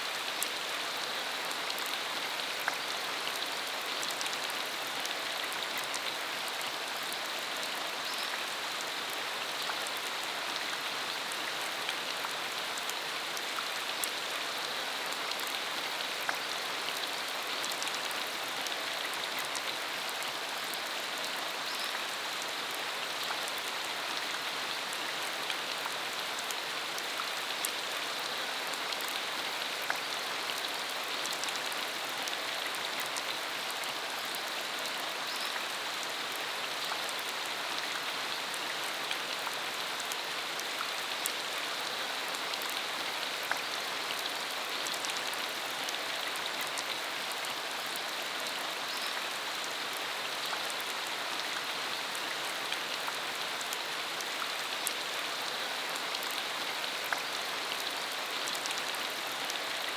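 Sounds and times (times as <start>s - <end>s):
rain on a dirt road: 0.0s - 59.9s.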